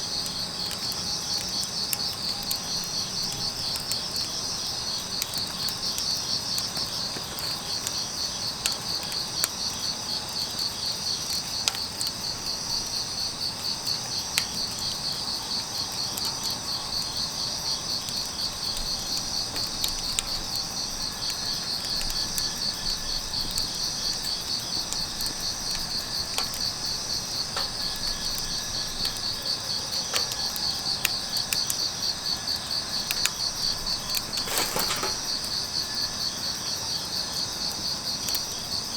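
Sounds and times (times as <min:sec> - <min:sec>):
crickets trilling: 0:00.0 - 0:38.9
firewood crackling and popping: 0:00.0 - 0:38.9.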